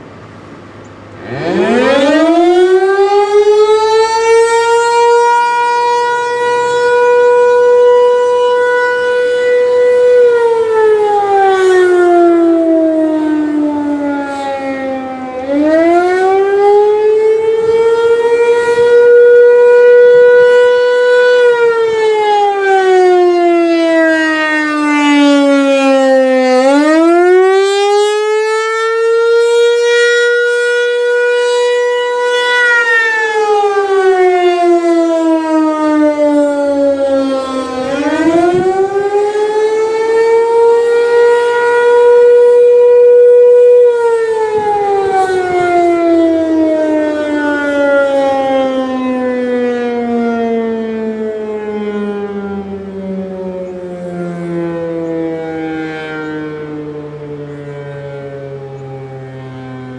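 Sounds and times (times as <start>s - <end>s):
outdoor warning siren wailing: 0.0s - 59.9s.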